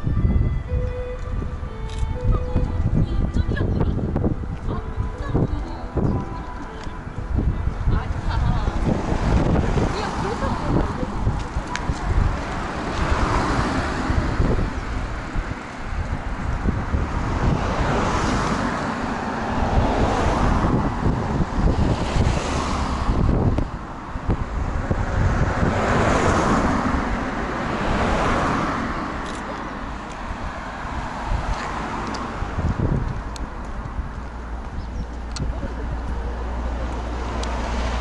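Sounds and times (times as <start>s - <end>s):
cars passing: 0.0s - 38.0s
wind buffeting microphone: 0.0s - 38.0s.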